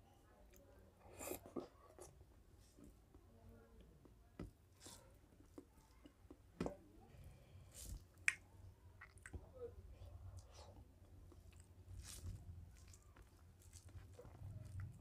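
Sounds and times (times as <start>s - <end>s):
wet squishes of hand mixing food: 0.3s - 15.0s.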